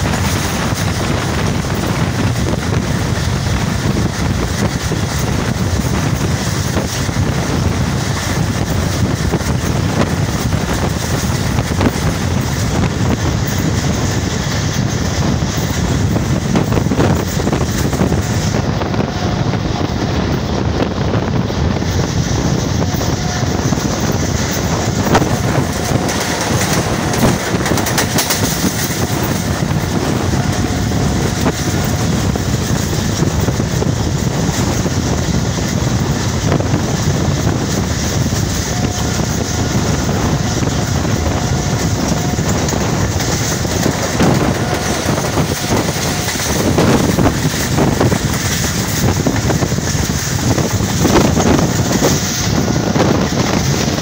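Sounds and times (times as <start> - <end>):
train wheels rumbling on rail: 0.0 - 54.0
wind rushing past microphone: 0.0 - 54.0.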